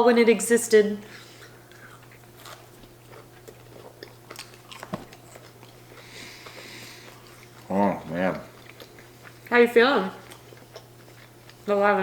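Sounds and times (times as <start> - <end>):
chewing chicken nuggets: 1.4 - 12.0.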